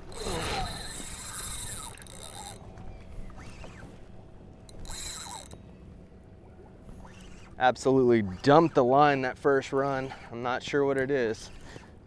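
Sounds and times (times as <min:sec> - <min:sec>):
fishing reel drag buzzing: 0:00.0 - 0:05.8, 0:06.8 - 0:10.3, 0:10.9 - 0:11.9.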